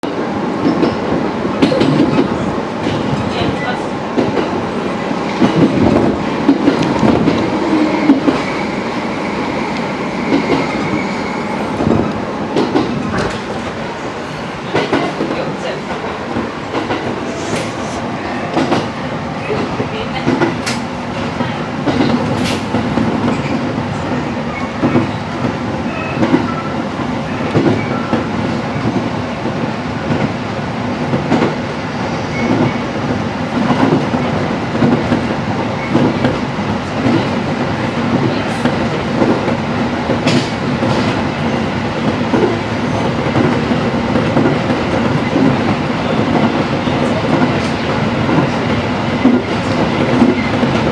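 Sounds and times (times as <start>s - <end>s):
train running on jointed track: 0.0s - 50.9s.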